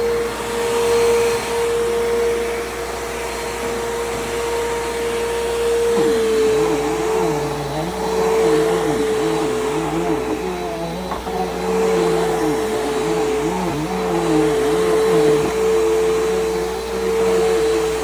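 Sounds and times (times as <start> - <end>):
vacuum cleaner motor whine: 0.0 - 18.0.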